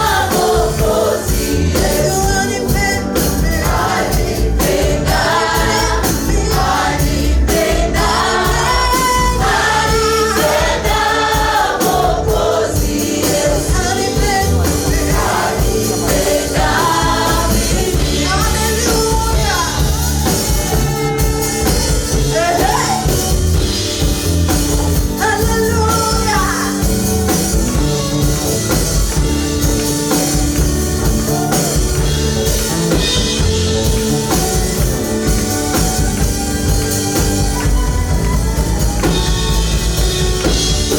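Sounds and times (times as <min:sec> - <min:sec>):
band accompaniment with a beat: 0:00.0 - 0:40.9
choir singing gospel music: 0:00.0 - 0:40.9.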